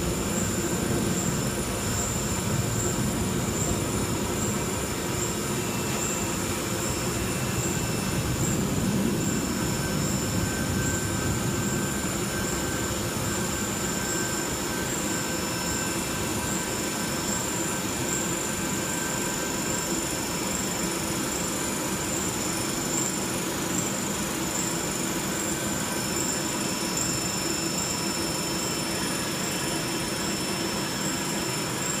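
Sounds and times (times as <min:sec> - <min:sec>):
high-pitched machine whine: 0:00.0 - 0:32.0
machine hum and rumble: 0:00.0 - 0:32.0.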